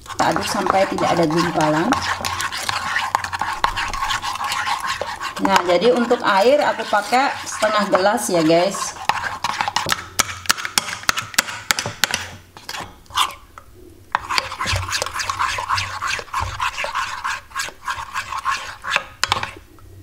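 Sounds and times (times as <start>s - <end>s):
metal spoon stirring batter in bowl: 0.0s - 19.7s.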